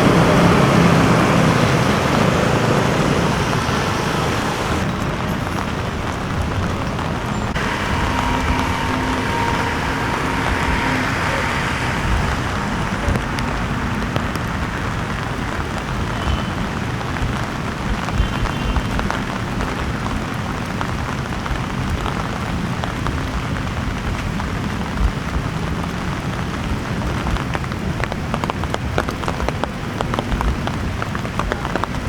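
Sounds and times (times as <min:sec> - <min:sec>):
heavy rain falling: 0:00.0 - 0:32.0
raindrops ticking on microphone: 0:00.0 - 0:32.0.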